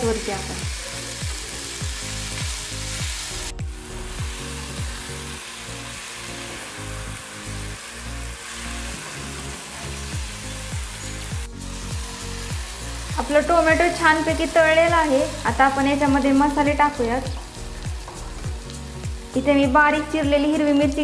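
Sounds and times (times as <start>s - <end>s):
background music with steady beat: 0.0s - 21.0s
onions sizzling in a pan: 0.0s - 21.0s.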